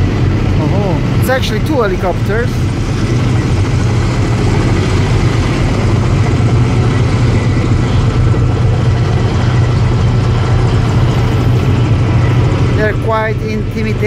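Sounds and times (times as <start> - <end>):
low engine drone: 0.0 - 14.0
rushing noise: 0.0 - 14.0.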